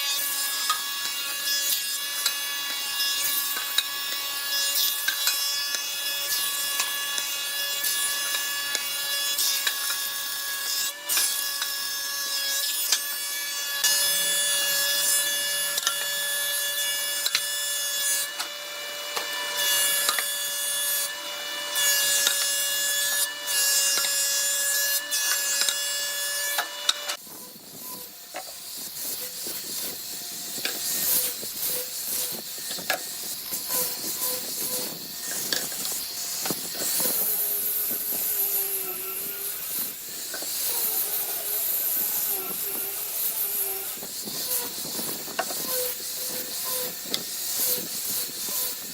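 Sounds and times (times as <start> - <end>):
power tool whining on wood: 0.0 - 48.9.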